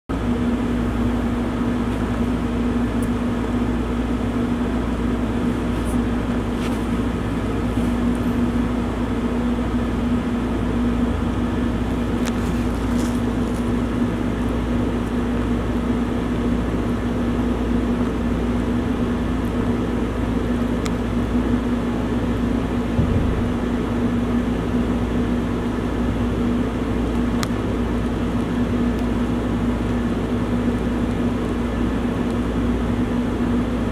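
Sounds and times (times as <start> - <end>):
steady machine hum: 0.1 - 33.9.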